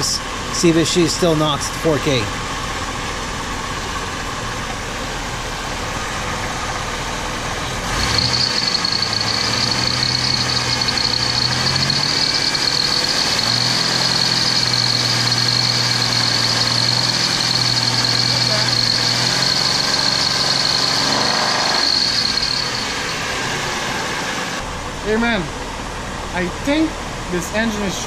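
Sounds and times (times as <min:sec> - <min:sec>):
high engine whine: 0:00.0 - 0:28.0
car engine knocking and revving: 0:01.4 - 0:26.3.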